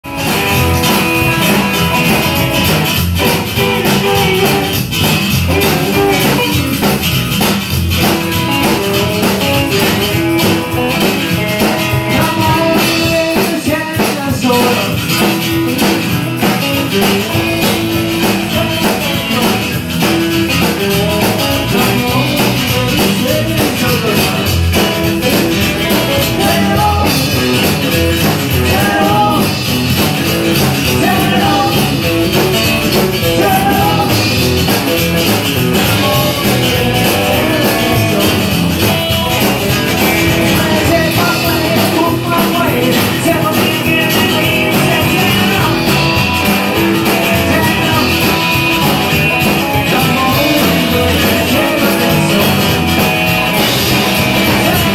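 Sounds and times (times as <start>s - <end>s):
acoustic guitar: 0.0s - 54.9s
drum kit: 0.0s - 54.9s
electric guitar: 0.0s - 54.9s
upright bass: 0.0s - 54.9s.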